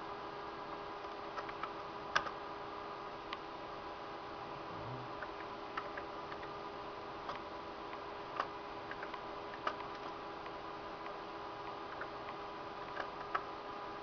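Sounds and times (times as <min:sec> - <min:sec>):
desktop computer humming: 0:00.0 - 0:14.0.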